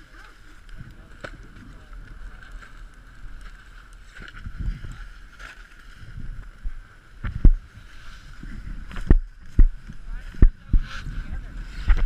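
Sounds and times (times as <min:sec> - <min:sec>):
muffled wind and rumble: 0:00.0 - 0:12.0.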